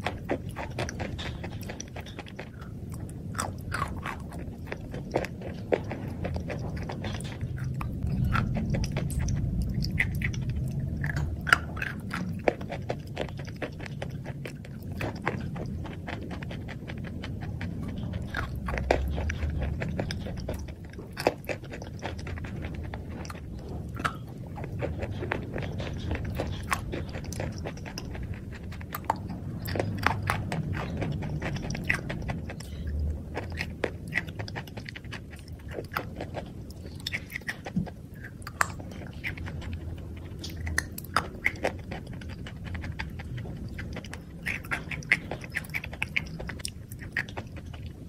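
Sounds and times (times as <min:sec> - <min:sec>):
crunchy food chewing: 0:00.0 - 0:48.0.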